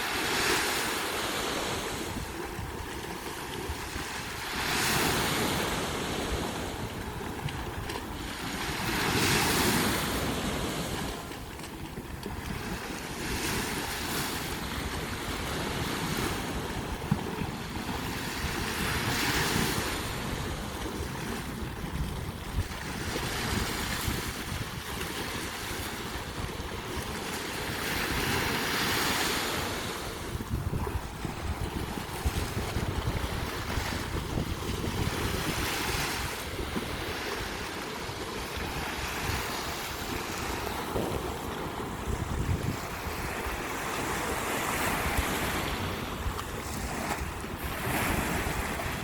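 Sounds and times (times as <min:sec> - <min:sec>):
sea waves breaking on beach: 0:00.0 - 0:49.0.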